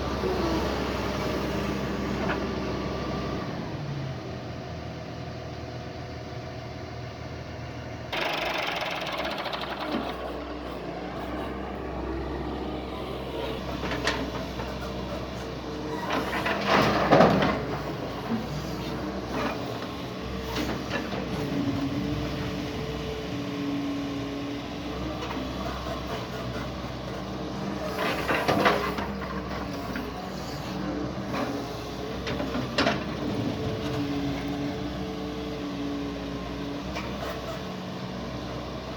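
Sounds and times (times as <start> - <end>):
excavator diesel engine working: 0.0 - 38.9.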